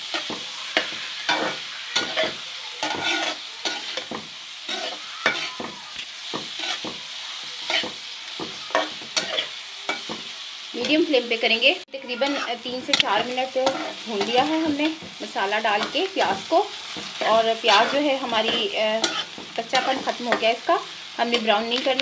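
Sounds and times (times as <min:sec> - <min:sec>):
spoon scraping and knocking pan: 0:00.0 - 0:11.1, 0:12.0 - 0:22.0
onions sizzling in hot oil: 0:00.0 - 0:22.0.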